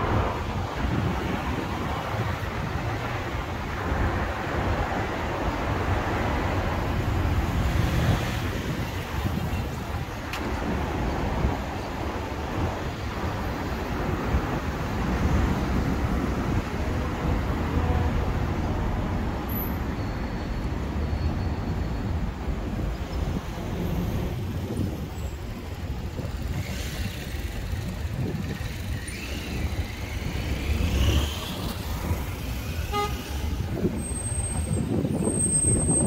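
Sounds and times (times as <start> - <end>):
cars passing: 0.0 - 36.0.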